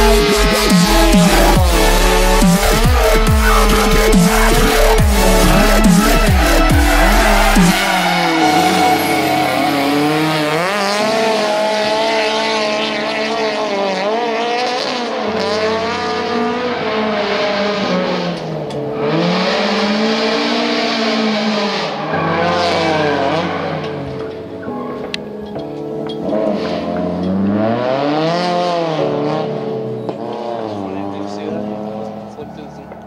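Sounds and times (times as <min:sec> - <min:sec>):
car engine revving: 0:00.0 - 0:25.0, 0:26.1 - 0:33.0.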